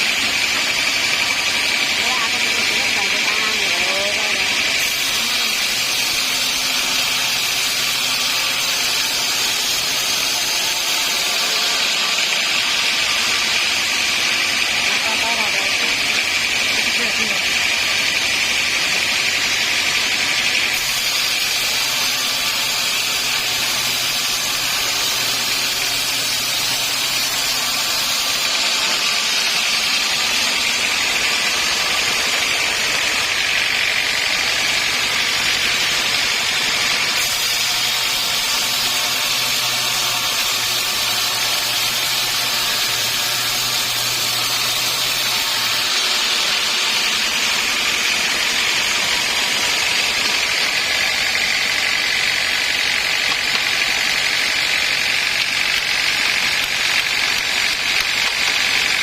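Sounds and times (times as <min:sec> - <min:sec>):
saw whining: 0:00.0 - 0:59.0.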